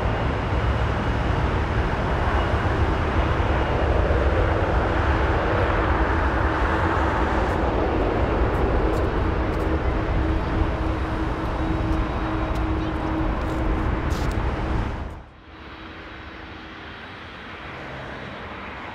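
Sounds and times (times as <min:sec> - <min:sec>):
constant low hum: 0:00.0 - 0:17.6
jet engines running: 0:00.0 - 0:18.9.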